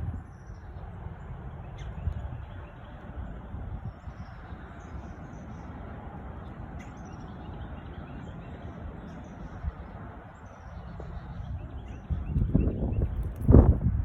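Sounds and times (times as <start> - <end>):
small birds chirping: 0.0 - 13.8
gusty wind buffeting microphone: 0.0 - 14.0.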